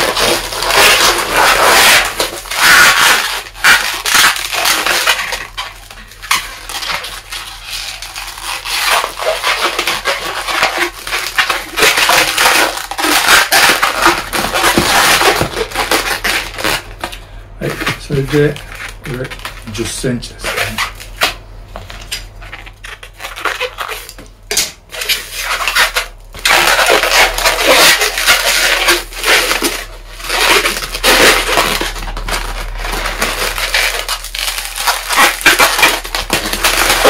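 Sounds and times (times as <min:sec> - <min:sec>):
balloons being twisted: 0:00.0 - 0:37.0.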